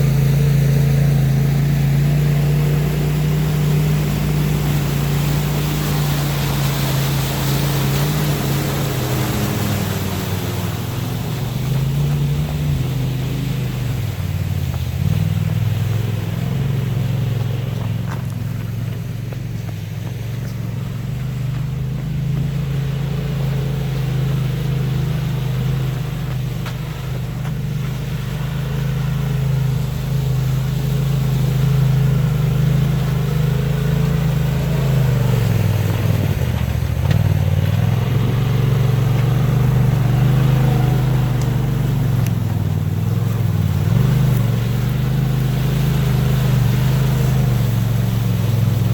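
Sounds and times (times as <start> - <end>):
turbocharged engine running: 0.0 - 48.9.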